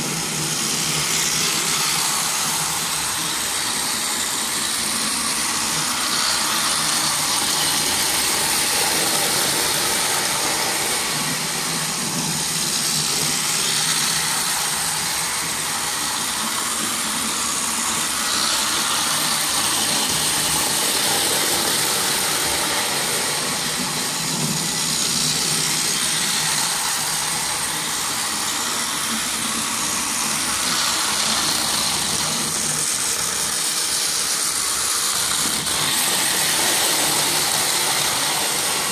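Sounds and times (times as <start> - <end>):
toy train motor whirring: 0.0 - 38.9.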